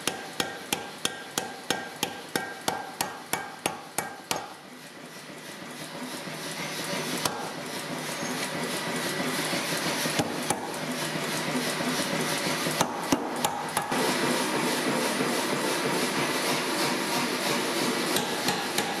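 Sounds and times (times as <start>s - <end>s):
steady forge noise: 0.0s - 19.0s.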